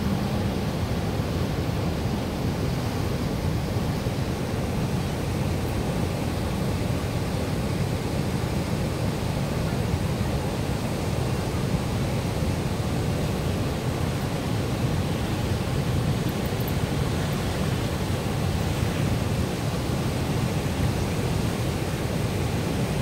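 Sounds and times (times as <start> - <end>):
floodwater rushing over spillway: 0.0 - 23.0.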